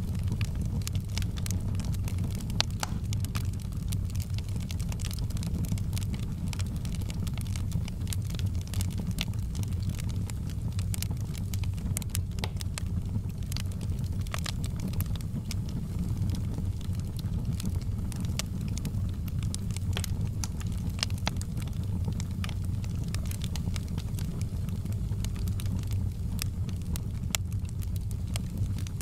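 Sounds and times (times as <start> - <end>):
fire flames rumbling: 0.0 - 29.0
wood crackling and popping: 0.0 - 29.0.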